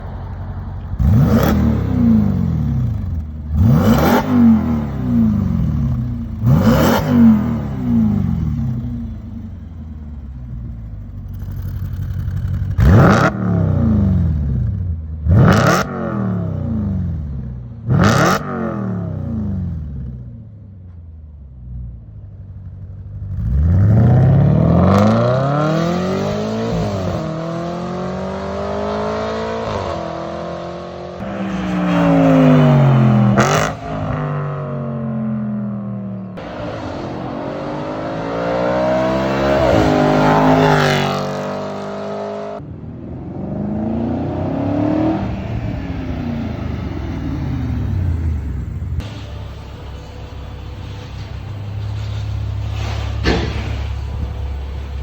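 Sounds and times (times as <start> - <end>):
car engine revving: 0.0 - 20.1, 23.3 - 55.0.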